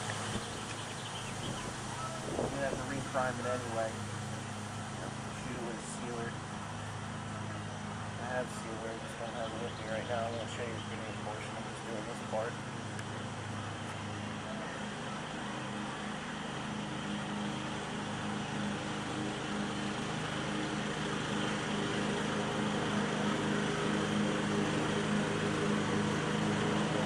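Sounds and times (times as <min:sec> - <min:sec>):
steady machine hum with hiss: 0:00.0 - 0:27.0.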